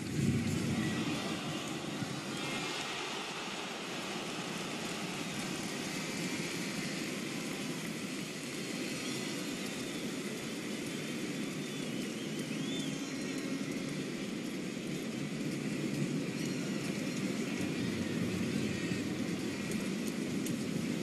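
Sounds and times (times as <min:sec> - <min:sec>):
stadium crowd noise: 0:00.0 - 0:21.0.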